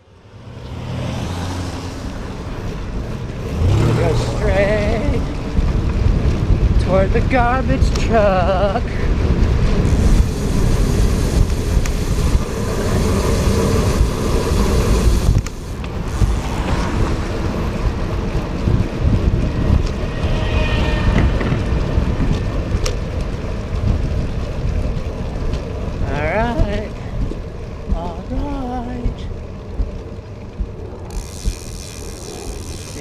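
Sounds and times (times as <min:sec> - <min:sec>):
tyre noise on wet road: 0:00.0 - 0:33.0
wind buffeting microphone: 0:00.3 - 0:33.0.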